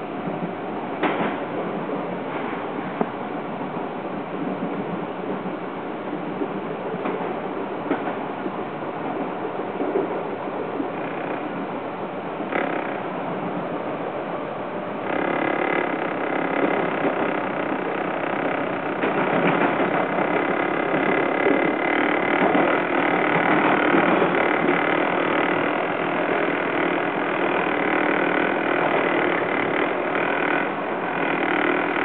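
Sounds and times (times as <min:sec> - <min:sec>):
steady whine: 0:00.0 - 0:32.0
train wheels rumbling on rail: 0:00.0 - 0:32.0.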